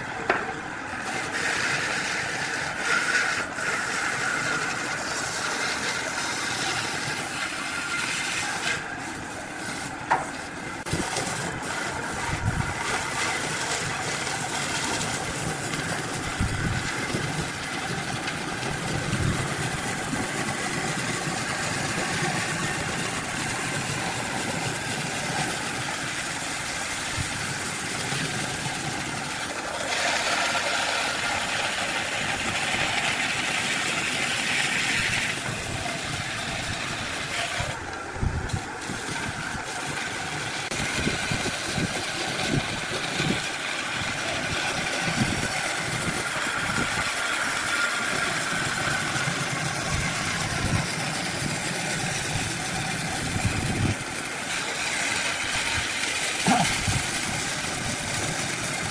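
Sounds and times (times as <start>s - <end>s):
tool cutting spinning wood: 0.0s - 58.9s
wood lathe motor hum: 0.0s - 58.9s.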